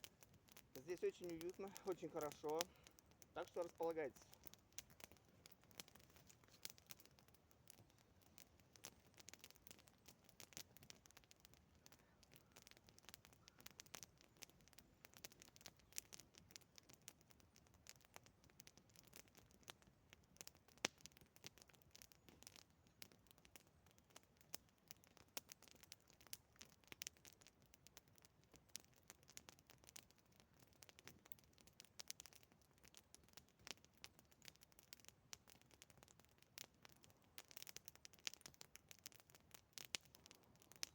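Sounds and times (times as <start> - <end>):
campfire crackling: 0.0 - 40.9
fire pops: 0.0 - 40.9.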